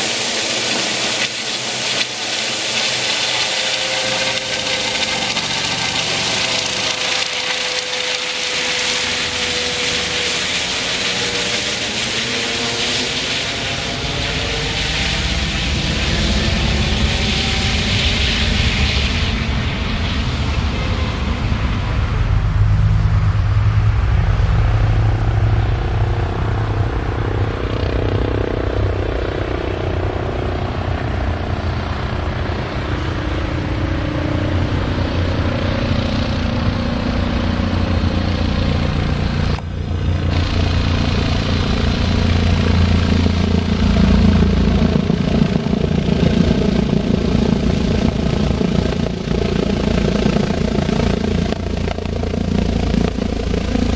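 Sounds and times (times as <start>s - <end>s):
helicopter engines and rotor throbbing: 0.0s - 53.9s.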